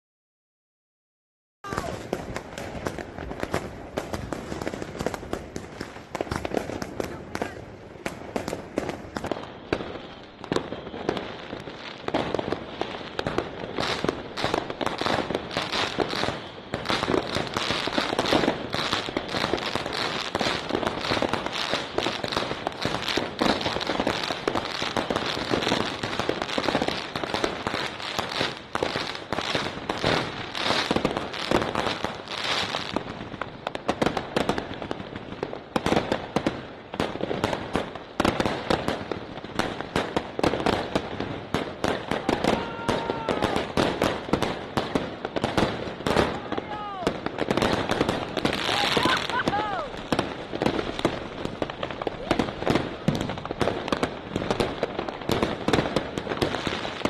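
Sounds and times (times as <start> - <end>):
crackling firework bursts: 1.6 - 57.0
firework cake rapid volley: 1.6 - 57.0.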